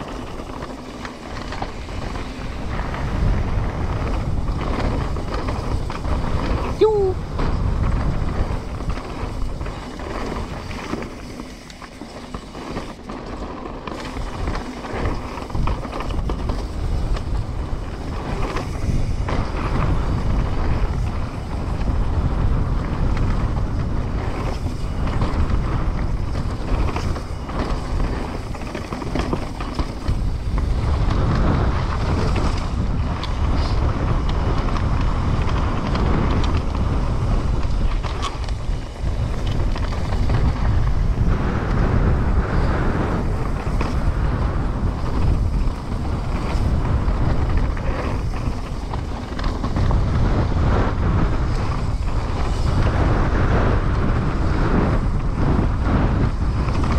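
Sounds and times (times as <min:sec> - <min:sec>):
bike tyres rumbling on rough ground: 0:00.0 - 0:56.9
wind rushing over microphone: 0:00.0 - 0:56.9.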